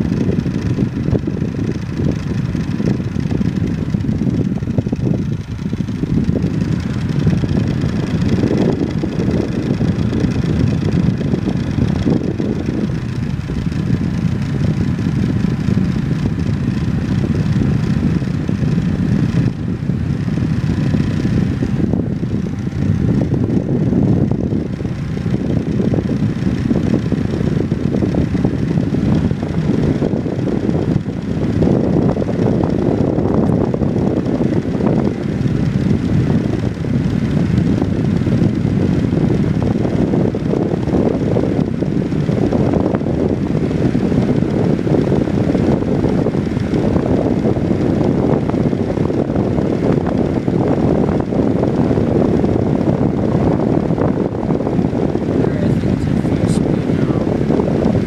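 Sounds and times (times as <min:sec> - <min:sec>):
desk fan running: 0:00.0 - 0:58.0.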